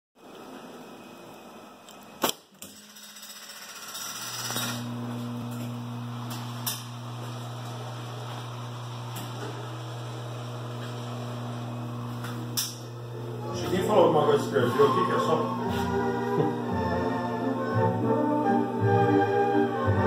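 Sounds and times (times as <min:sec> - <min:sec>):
jukebox electric hum: 0:00.2 - 0:20.0.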